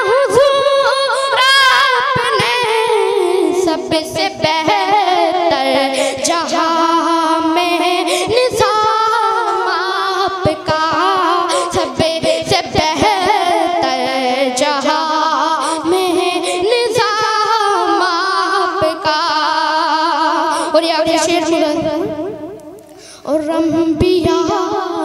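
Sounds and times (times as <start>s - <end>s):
boy singing unaccompanied: 0.0s - 22.5s, 23.2s - 25.0s.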